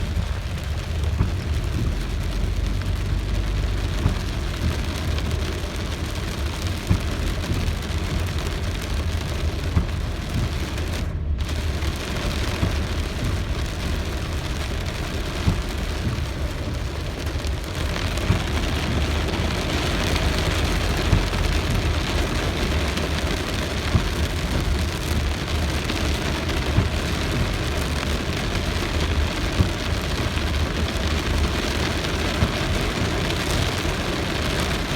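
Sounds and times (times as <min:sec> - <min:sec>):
low rumble: 0:00.0 - 0:32.3
sharp raindrop hits: 0:00.0 - 0:34.9
steady rain falling: 0:00.0 - 0:34.9.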